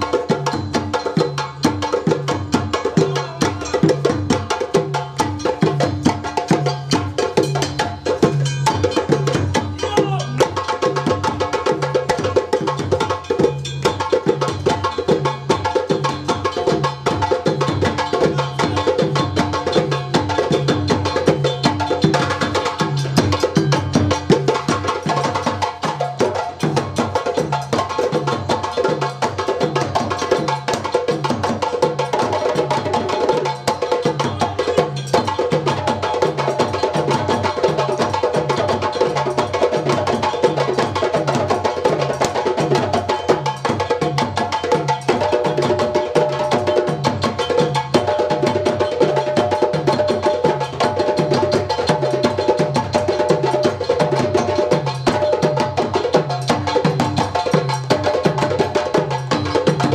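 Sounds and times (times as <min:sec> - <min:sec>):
drum ensemble playing fast rhythm: 0:00.0 - 0:59.9.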